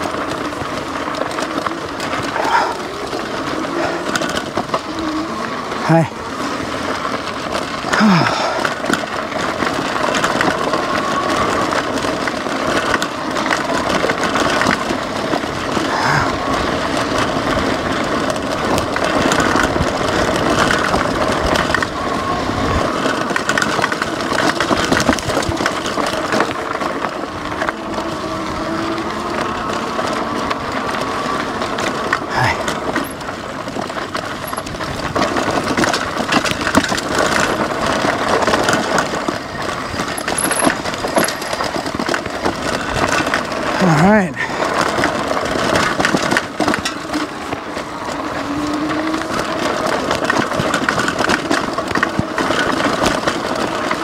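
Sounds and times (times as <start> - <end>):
bike rattling: 0.0 - 54.0
tyres rolling on gravel: 0.0 - 54.0.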